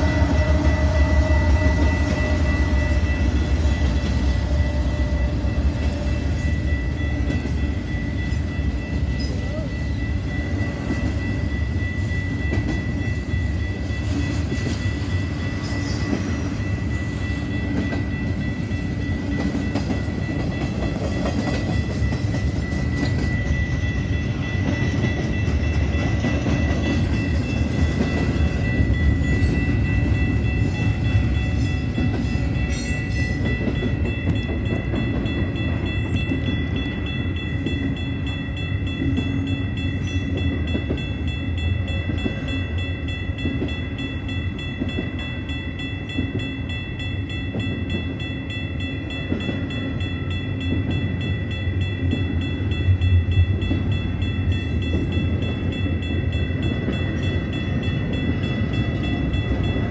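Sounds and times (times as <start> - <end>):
crossing warning bell ringing: 0.0 - 59.9
train wheels rumbling and clattering: 0.0 - 59.9.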